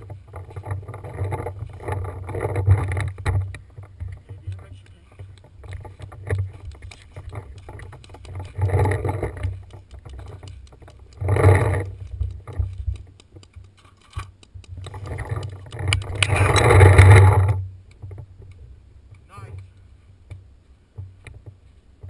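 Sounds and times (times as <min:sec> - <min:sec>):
rustling on camera microphone: 0:00.0 - 0:18.7
faint clicks: 0:00.0 - 0:21.6.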